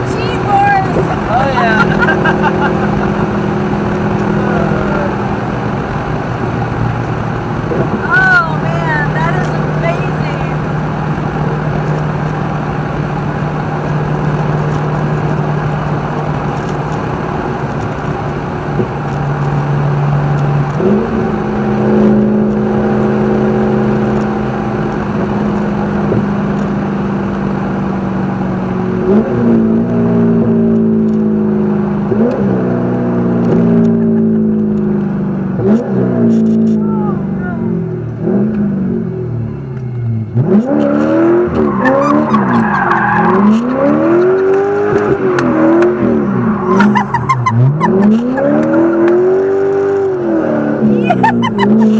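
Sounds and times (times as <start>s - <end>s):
race car engine under load: 0.0s - 51.9s.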